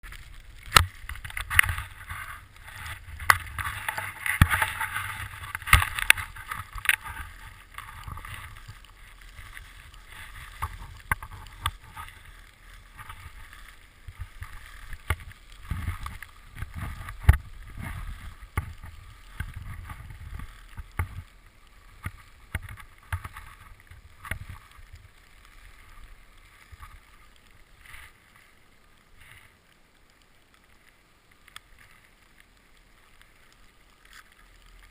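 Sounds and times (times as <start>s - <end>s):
wind rumbling on microphone: 0.0s - 28.2s
skis hissing and scraping on snow: 0.0s - 34.9s.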